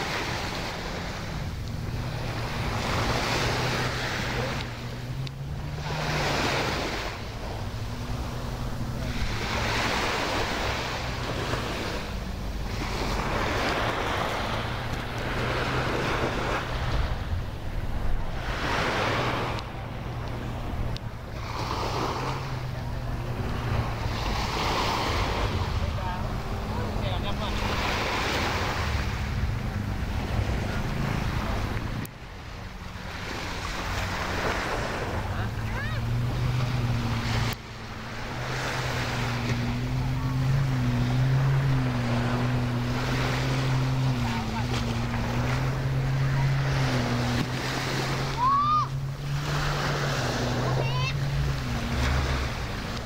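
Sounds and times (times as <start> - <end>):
small waves breaking on beach: 0.0 - 53.0.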